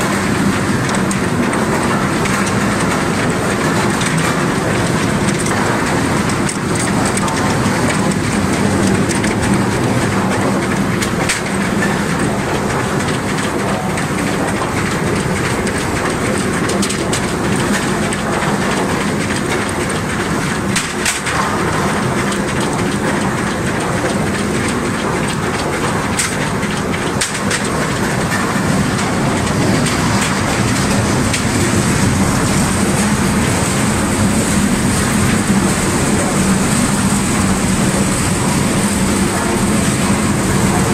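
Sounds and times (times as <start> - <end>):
logs knocking against rollers: 0.0 - 40.9
loud machine drone: 0.0 - 40.9.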